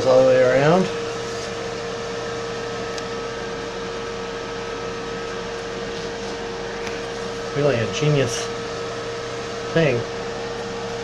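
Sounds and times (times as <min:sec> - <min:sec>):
clothes dryer blower humming: 0:00.0 - 0:11.0.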